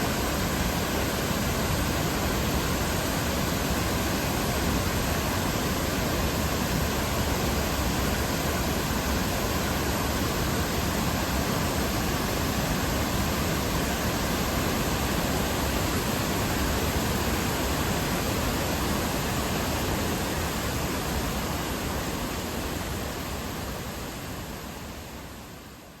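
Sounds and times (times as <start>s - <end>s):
waterfall rushing: 0.0s - 25.1s.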